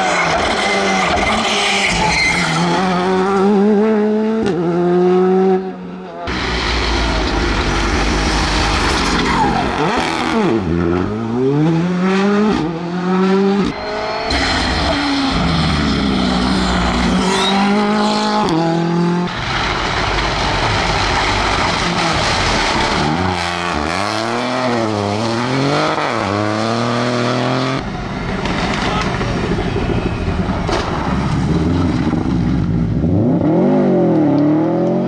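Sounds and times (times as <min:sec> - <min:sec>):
rally car engines accelerating: 0:00.0 - 0:35.0.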